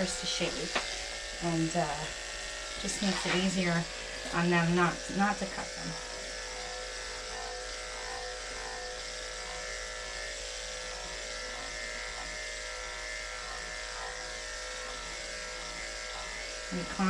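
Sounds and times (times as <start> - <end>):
electric clippers humming: 0.0 - 17.0.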